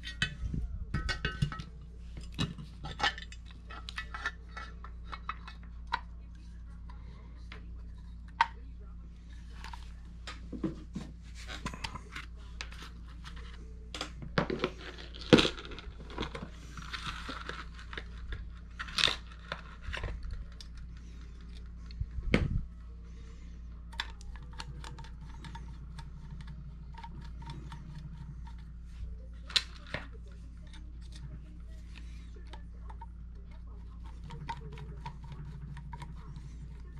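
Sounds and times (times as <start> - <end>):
faint steady low hum: 0.0 - 36.9.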